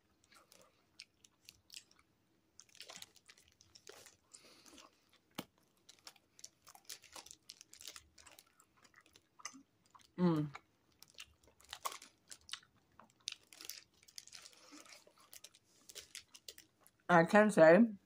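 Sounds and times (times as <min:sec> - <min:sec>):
chewing with mouth clicks: 0:00.2 - 0:17.0.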